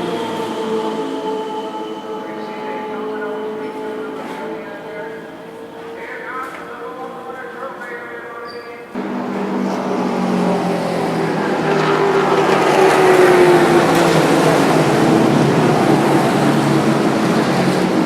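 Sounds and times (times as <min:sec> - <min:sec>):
race car engine running hard: 0:00.0 - 0:07.1, 0:09.0 - 0:18.0.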